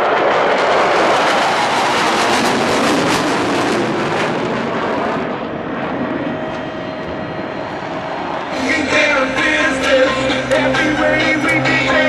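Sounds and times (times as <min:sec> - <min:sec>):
aircraft flying low overhead: 0:00.0 - 0:12.0.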